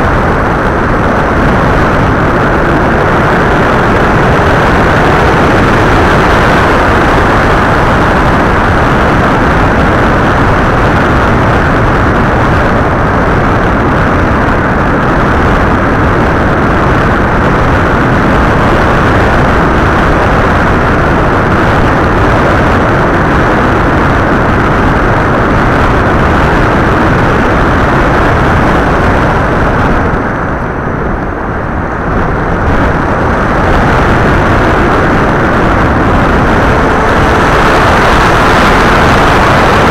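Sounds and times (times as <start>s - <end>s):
loud rush of wind noise: 0.0s - 39.9s.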